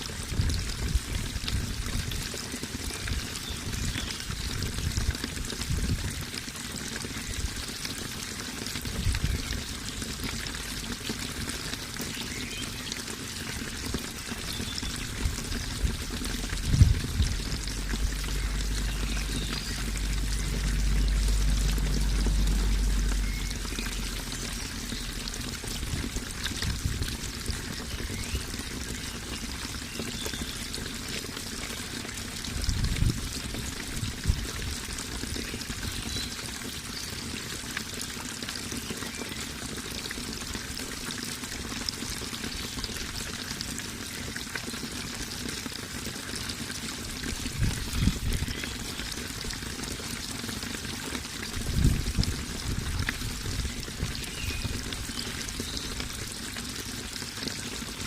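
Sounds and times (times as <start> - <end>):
low rumbles in water flow: 0.0 - 58.0
running water pouring: 0.0 - 58.0.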